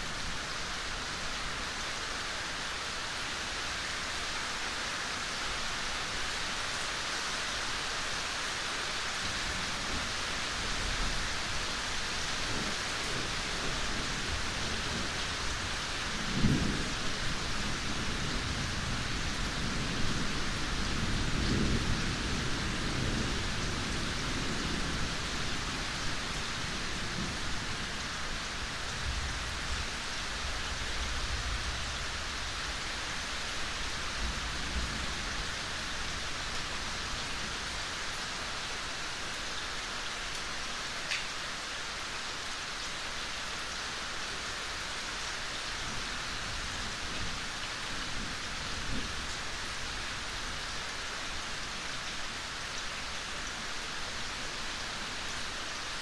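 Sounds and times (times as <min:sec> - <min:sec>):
rain falling in forest: 0:00.0 - 0:56.0.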